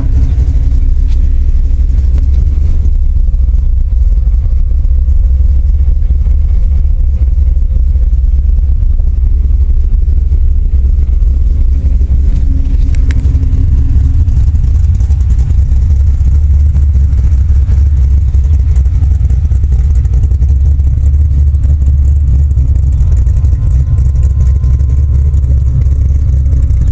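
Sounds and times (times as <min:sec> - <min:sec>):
car engine idling with deep rumble: 0:00.0 - 0:26.9.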